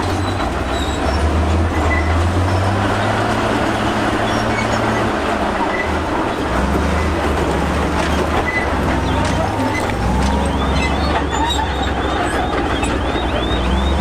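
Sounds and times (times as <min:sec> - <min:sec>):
bulldozer diesel engine running: 0:00.0 - 0:14.0
steel tracks squeaking: 0:00.0 - 0:14.0.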